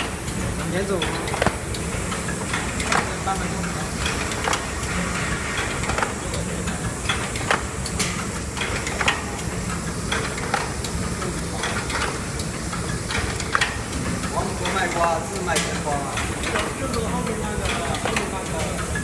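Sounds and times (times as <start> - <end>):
machine mechanism clacking: 0.0 - 19.0
wrapping machine humming: 0.0 - 19.0.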